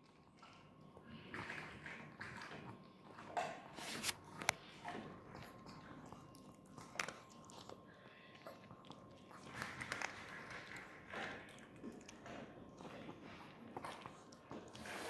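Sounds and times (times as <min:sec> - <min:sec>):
dog crunching dry kibble: 0:01.3 - 0:15.0.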